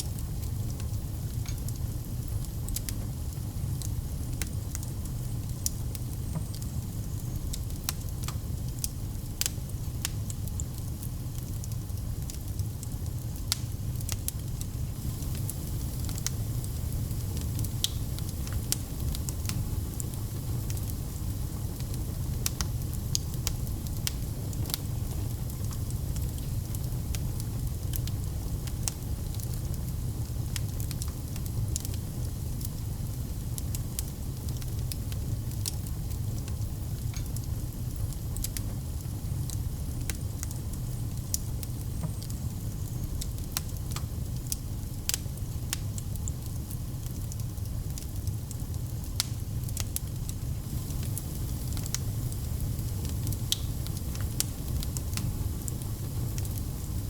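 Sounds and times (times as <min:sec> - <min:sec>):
fire crackles and pops: 0:00.0 - 0:57.0
fire rumbling in fireplace: 0:00.0 - 0:57.0.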